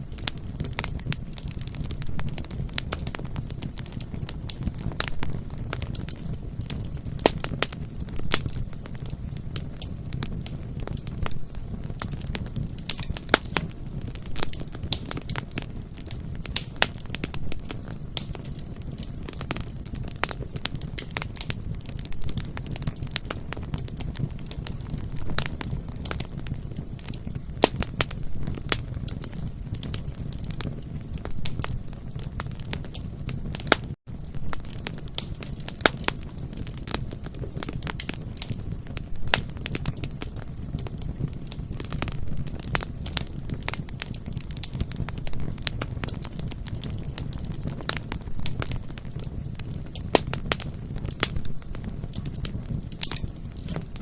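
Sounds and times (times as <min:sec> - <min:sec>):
bonfire low rumble: 0:00.0 - 0:54.0
burning wood crackles and pops: 0:00.0 - 0:54.0.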